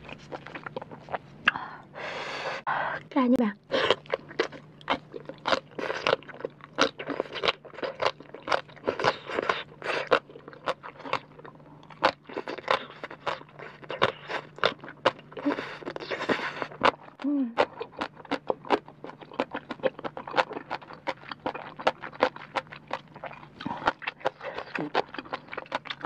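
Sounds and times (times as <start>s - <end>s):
crunchy chewing: 0.0s - 1.5s, 3.7s - 26.0s.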